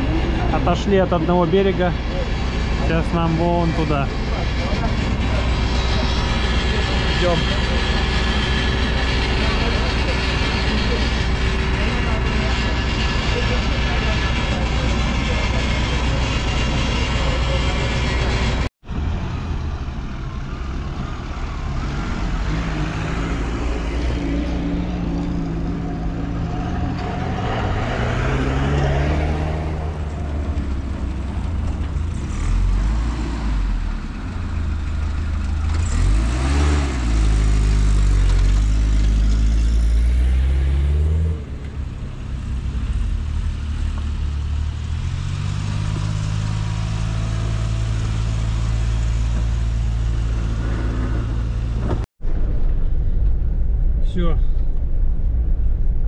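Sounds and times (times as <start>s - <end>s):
engine revving: 0.0s - 52.1s.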